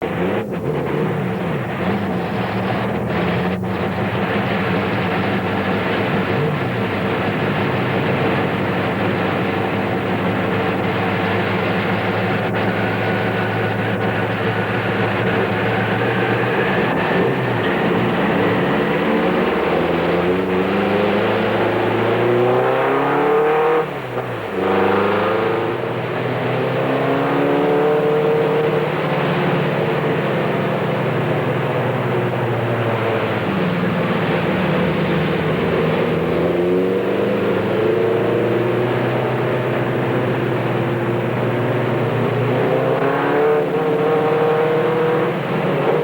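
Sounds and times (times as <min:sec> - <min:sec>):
truck engine accelerating: 0:00.0 - 0:46.0.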